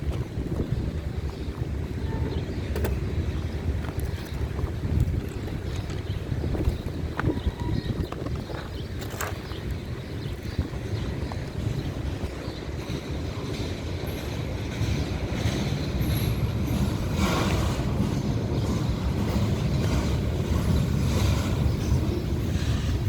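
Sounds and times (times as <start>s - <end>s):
freight train rumbling on rails: 0.0s - 23.0s.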